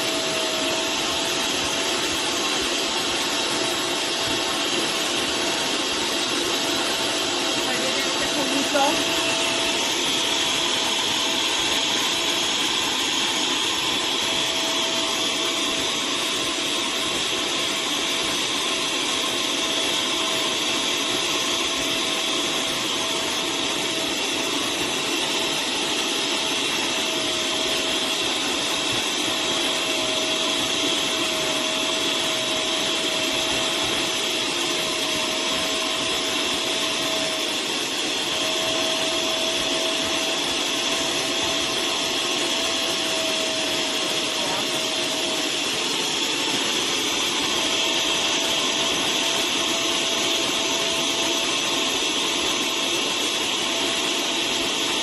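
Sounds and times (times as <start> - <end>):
wet vacuum cleaner running: 0.0 - 55.0.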